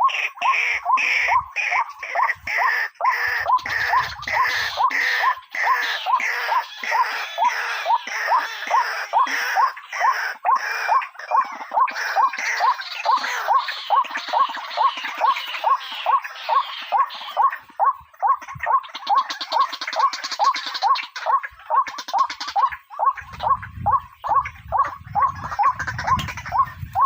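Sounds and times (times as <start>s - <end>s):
harsh chattering: 3.4s - 27.0s.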